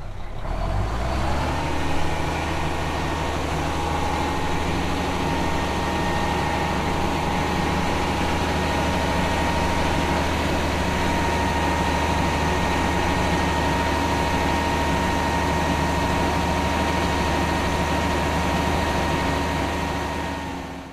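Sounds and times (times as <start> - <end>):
garbage truck engine drone: 0.0 - 20.9
hydraulic compactor whine: 1.3 - 20.9.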